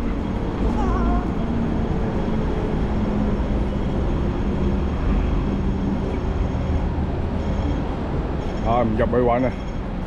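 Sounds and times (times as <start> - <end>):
traffic engine rumble: 0.0 - 10.0.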